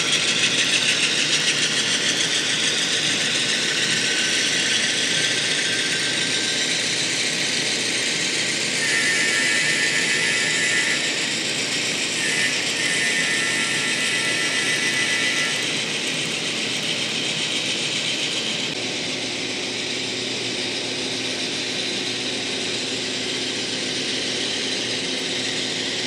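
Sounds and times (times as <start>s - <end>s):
model train wheels and motor whirring: 0.0s - 26.0s.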